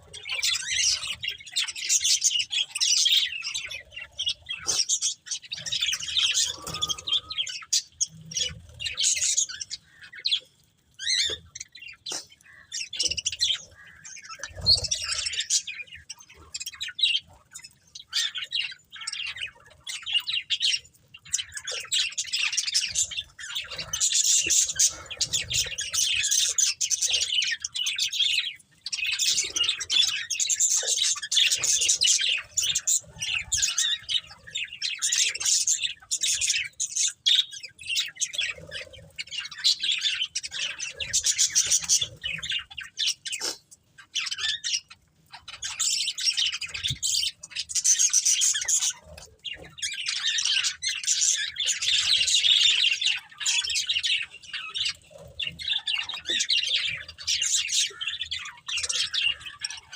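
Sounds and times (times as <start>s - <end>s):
budgerigars chattering and chirping: 0.0s - 59.9s.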